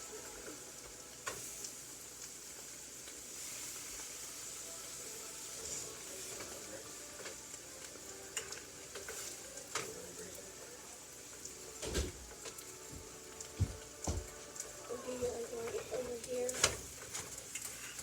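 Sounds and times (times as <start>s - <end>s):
eggs sizzling in a pan: 0.0s - 18.0s.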